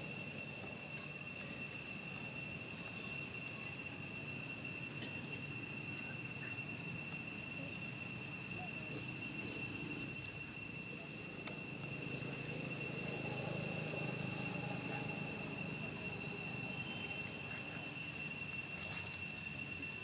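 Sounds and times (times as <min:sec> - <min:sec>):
high-pitched insect drone: 0:00.0 - 0:20.0
low outdoor rumble: 0:00.0 - 0:20.0.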